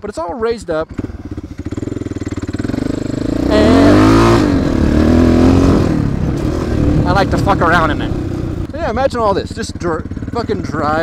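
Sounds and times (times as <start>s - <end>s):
motorcycle engine revving: 0.7s - 11.0s.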